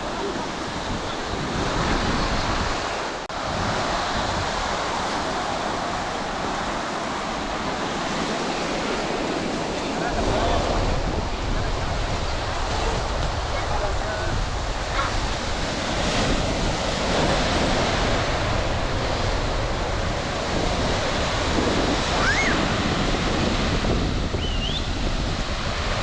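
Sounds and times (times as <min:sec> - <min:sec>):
surf breaking on beach: 0:00.0 - 0:26.0
wind on microphone: 0:00.0 - 0:26.0.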